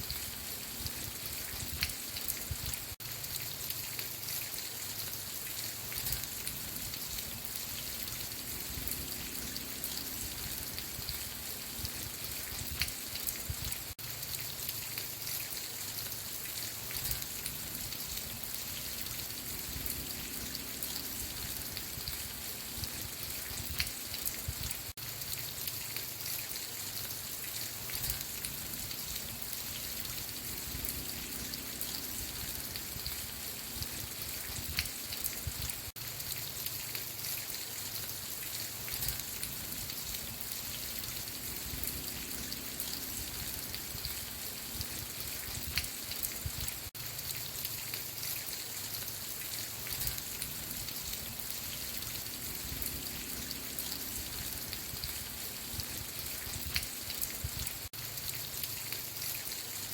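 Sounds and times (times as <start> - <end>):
raindrop ticks: 0.0 - 59.8
rain hissing: 0.0 - 59.9.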